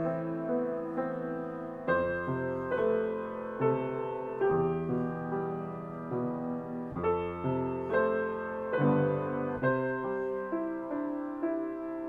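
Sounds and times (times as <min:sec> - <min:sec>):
piano duet: 0:00.0 - 0:12.0.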